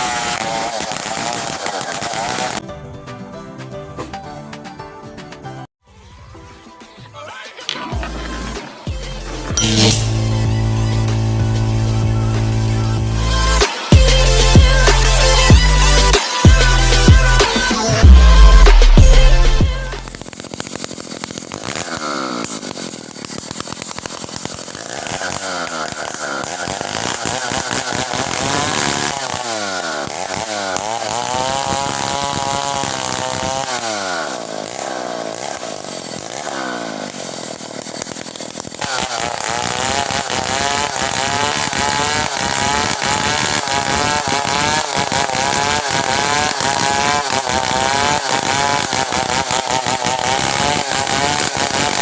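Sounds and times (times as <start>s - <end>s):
chainsaw revving: 0.0s - 2.6s, 7.7s - 52.0s.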